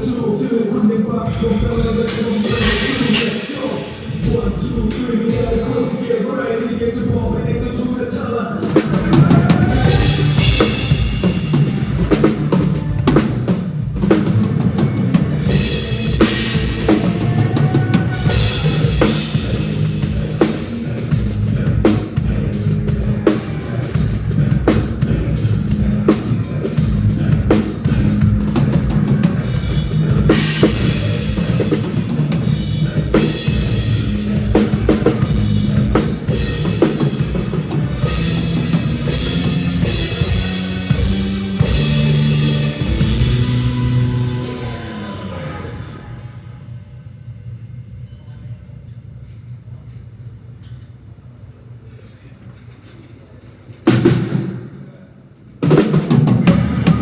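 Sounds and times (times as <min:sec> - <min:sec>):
drum kit groove: 0:00.0 - 0:06.2, 0:06.9 - 0:46.5, 0:55.6 - 0:57.0.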